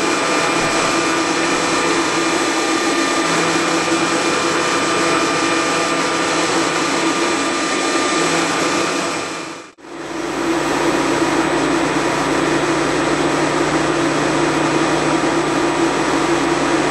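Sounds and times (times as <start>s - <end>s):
lathe machine whir: 0.0s - 16.9s.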